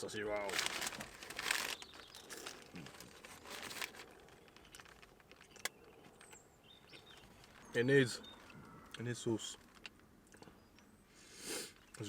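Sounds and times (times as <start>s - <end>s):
food packaging crinkling: 0.2s - 10.6s.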